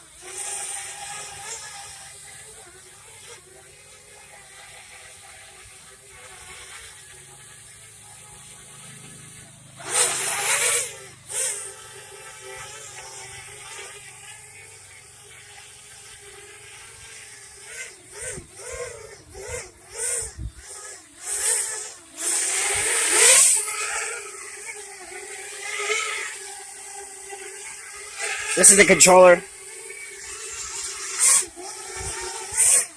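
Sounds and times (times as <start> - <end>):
drone propellers buzzing: 0.0 - 32.9.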